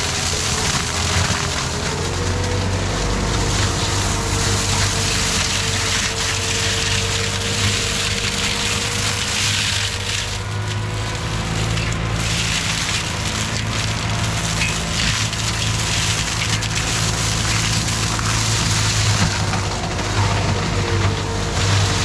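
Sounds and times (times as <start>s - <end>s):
diesel engine running under load: 0.0s - 22.0s
mulcher grinding brush and wood: 0.0s - 22.0s.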